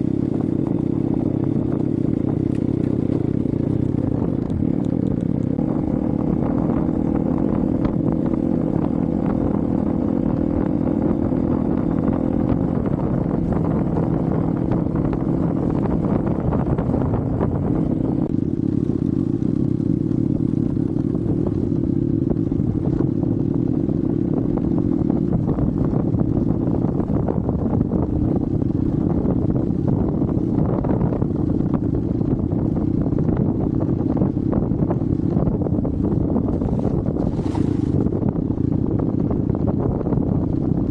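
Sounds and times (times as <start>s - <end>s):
motorcycle engine running: 0.0s - 40.9s
wind rumbling on microphone: 0.0s - 40.9s.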